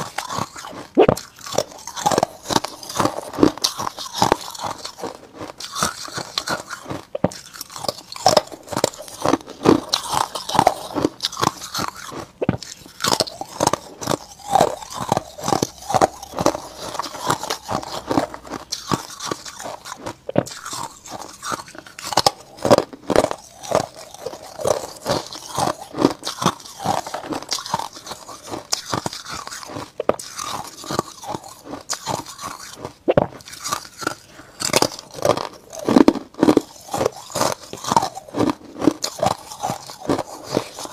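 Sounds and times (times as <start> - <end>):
ice crunching being chewed: 0.0 - 40.9.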